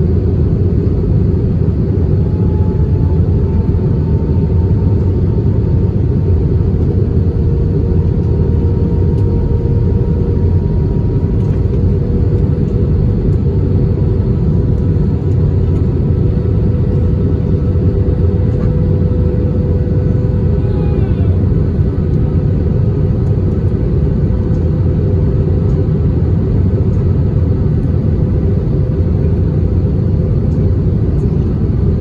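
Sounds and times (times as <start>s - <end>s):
aircraft cabin engine rumble: 0.0s - 32.0s.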